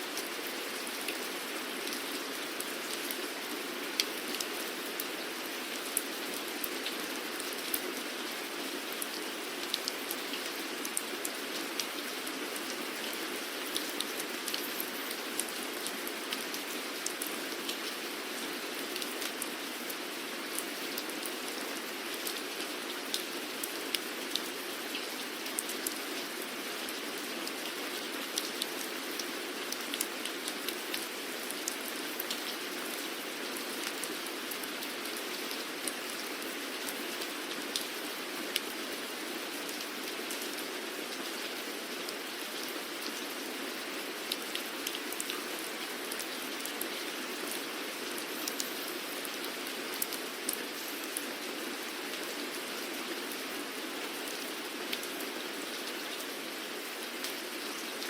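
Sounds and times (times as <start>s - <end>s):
steady rain hiss: 0.0s - 58.0s
raindrops ticking on a surface: 0.1s - 52.2s.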